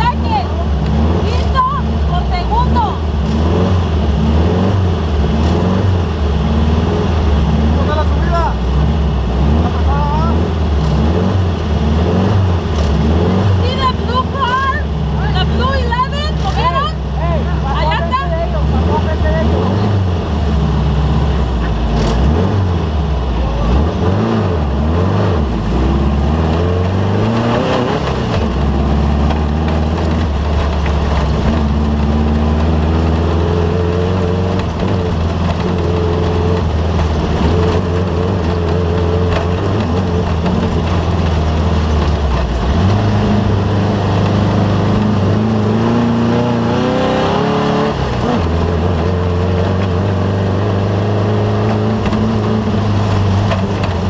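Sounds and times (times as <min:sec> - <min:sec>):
race vehicle engine revving: 0:00.0 - 0:54.0.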